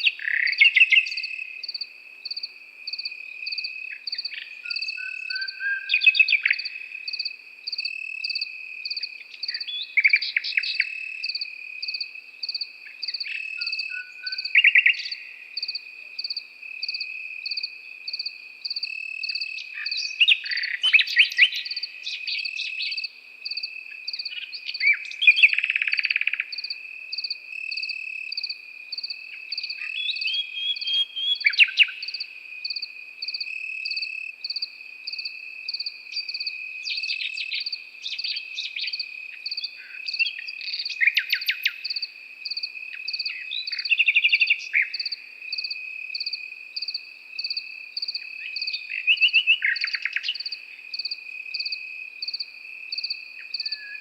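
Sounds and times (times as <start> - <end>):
crickets trilling: 0.0 - 54.0
nightingale singing: 0.0 - 54.0.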